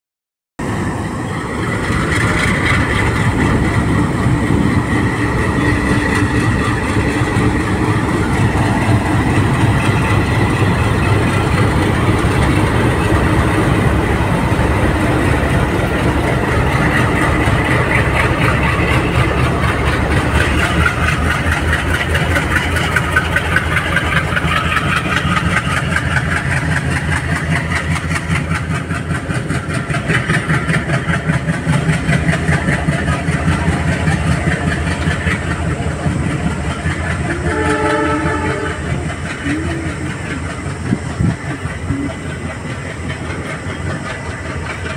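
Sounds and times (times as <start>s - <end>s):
diesel locomotive engines running: 0.6s - 44.9s
rapid rhythmic train clatter: 0.6s - 44.9s.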